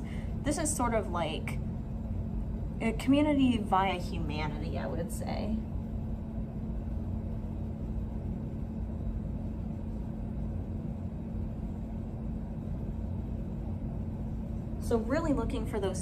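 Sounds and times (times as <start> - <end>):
low-pitched hum: 0.0 - 16.0
room background rumble: 0.0 - 16.0.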